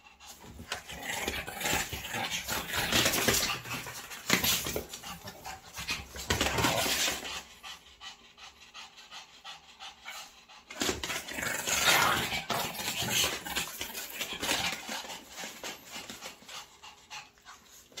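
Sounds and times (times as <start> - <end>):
dogs breathing and vocalizing: 0.0 - 18.0.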